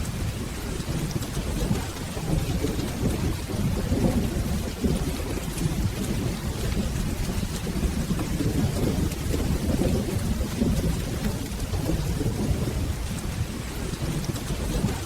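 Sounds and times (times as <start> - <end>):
low rolling thunder: 0.0 - 15.0
steady rain: 0.0 - 15.0.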